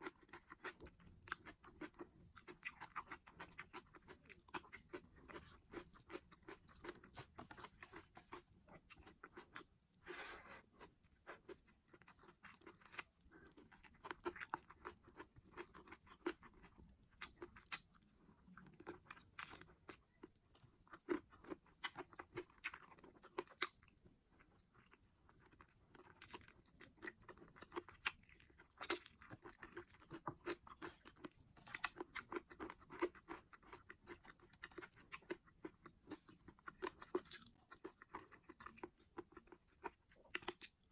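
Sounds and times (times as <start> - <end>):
person chewing food: 0.0 - 40.9.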